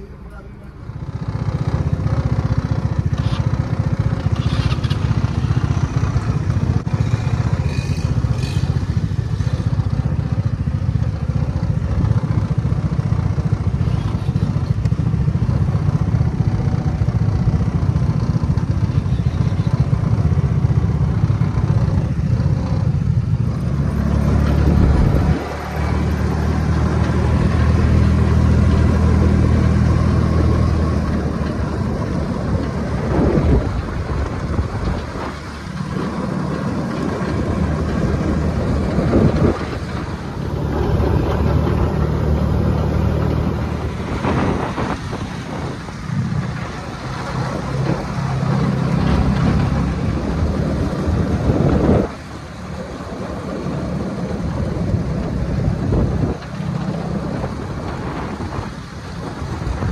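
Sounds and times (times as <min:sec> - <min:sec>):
dune buggy engine running: 0:00.0 - 0:59.9.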